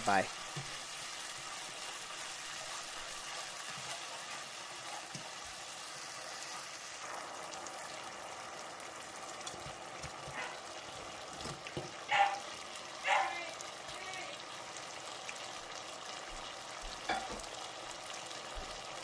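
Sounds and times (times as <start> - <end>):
sauce sizzling in a frying pan: 0.0 - 19.0.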